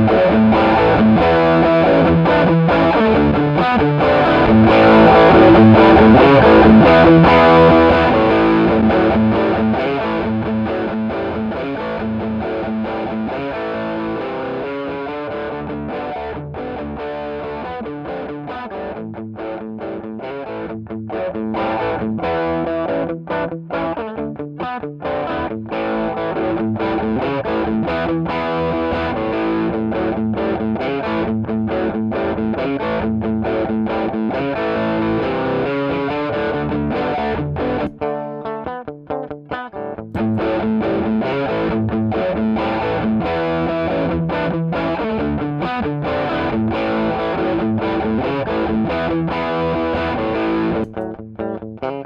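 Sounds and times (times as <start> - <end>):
distorted electric guitar: 0.0 - 52.0.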